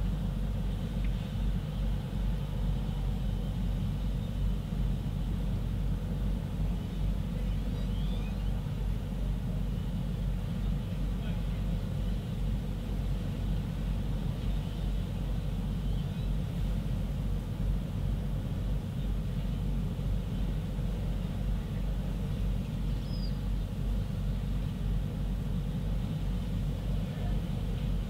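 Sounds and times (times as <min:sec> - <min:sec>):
faint steady hum: 0:00.0 - 0:28.0
low outdoor rumble: 0:00.0 - 0:28.0.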